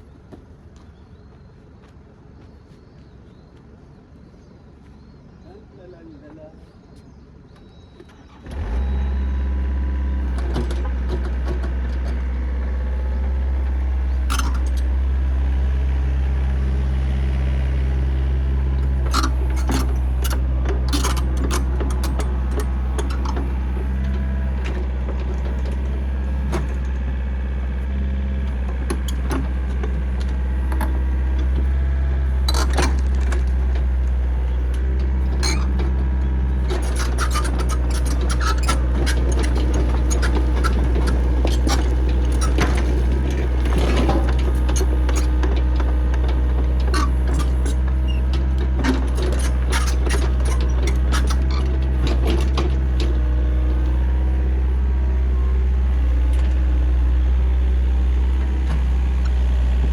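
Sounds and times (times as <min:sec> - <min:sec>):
backhoe engine droning: 0:00.0 - 0:59.9.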